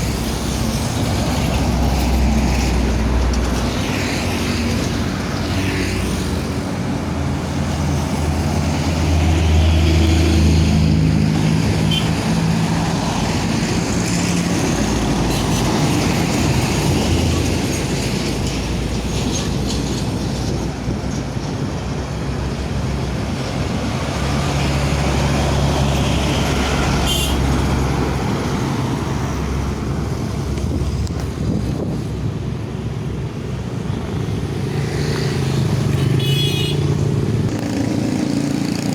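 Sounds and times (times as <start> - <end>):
heavy road traffic: 0.0 - 38.9
large vehicle engines passing: 0.0 - 38.9.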